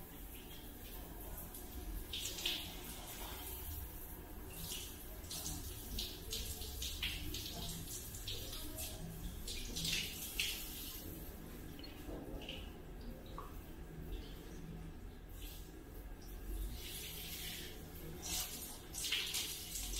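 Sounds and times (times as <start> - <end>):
shower water splashing: 0.0 - 19.9.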